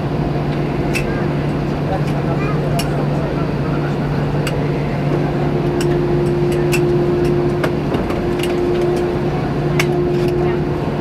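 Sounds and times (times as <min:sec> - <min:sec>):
airplane cabin hum: 0:00.0 - 0:11.0
steady higher tone: 0:00.0 - 0:11.0.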